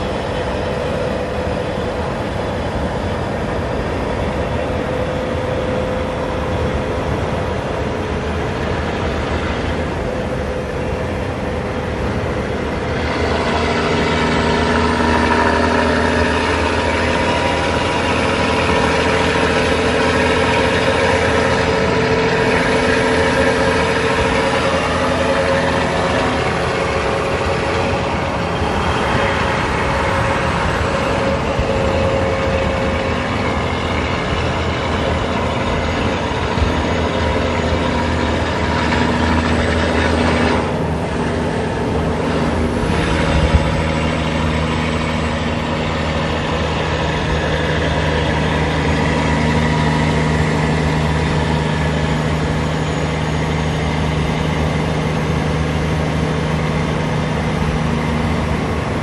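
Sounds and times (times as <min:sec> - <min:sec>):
truck diesel engine running: 0:00.0 - 0:59.0
tyre and wind noise: 0:00.0 - 0:59.0.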